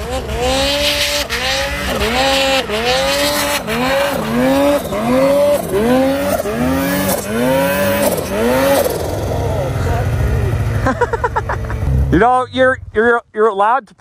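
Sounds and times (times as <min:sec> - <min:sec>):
snowmobile engine revving: 0:00.0 - 0:13.2.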